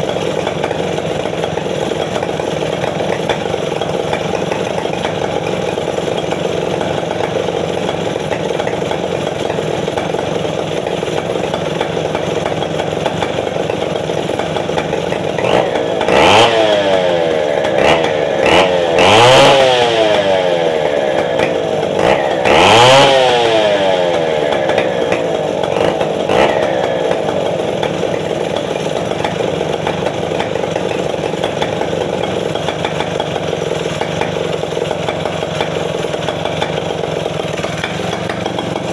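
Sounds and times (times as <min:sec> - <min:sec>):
chainsaw engine idling and revving: 0:00.0 - 0:38.9.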